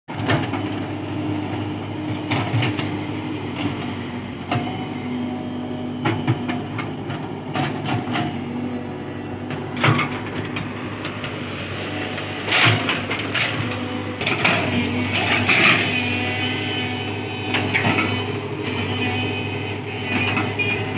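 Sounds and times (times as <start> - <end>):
excavator diesel engine running: 0.1 - 20.9.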